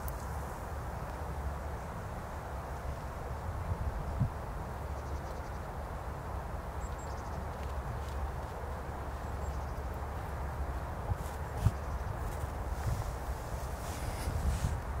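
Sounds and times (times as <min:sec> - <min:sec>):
outdoor rumble and hiss: 0:00.0 - 0:15.0.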